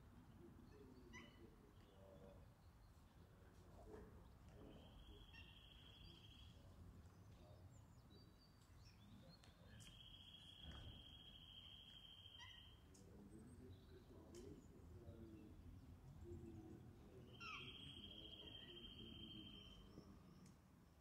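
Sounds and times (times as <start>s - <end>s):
faint bird chirps: 0.4s - 20.6s.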